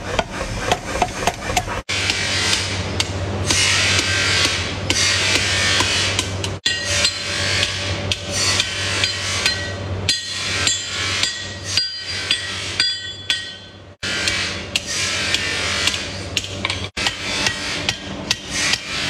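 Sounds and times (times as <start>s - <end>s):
hammer striking on anvil: 1.6s - 19.0s.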